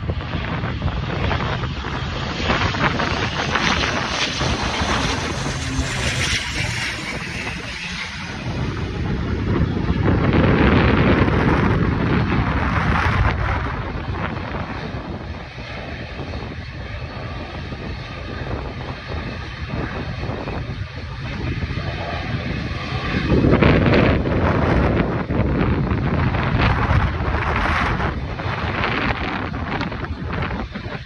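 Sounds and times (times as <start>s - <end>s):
aircraft engines at power: 0.0s - 31.0s
wind buffeting microphone: 0.0s - 31.0s.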